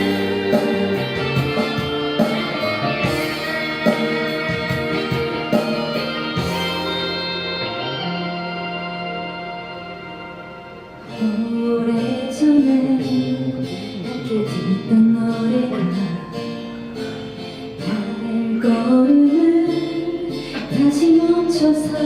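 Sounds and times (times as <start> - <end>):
person singing: 0.0 - 8.3, 11.1 - 16.6, 17.6 - 22.0
guitar chords: 0.0 - 22.0.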